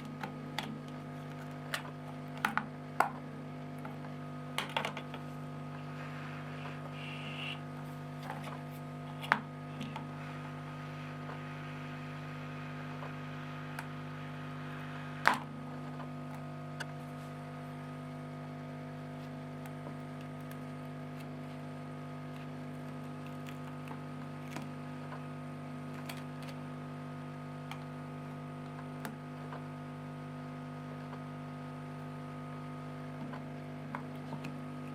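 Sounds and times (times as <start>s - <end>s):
electrical hum: 0.0s - 34.9s.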